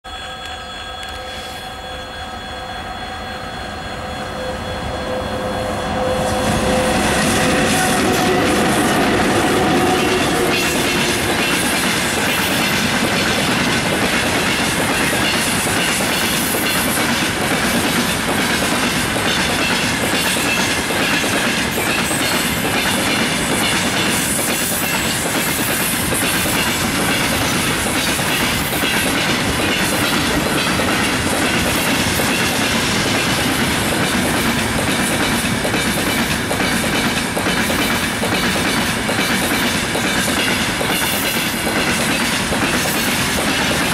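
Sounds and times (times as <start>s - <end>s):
wheel-on-rail noise: 0.2s - 43.9s.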